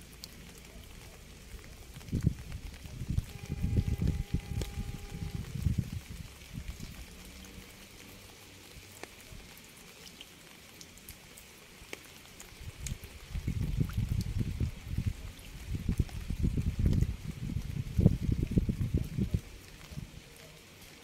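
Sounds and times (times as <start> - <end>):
faint rain hiss: 0.0 - 21.0
raindrops tapping: 0.0 - 21.0.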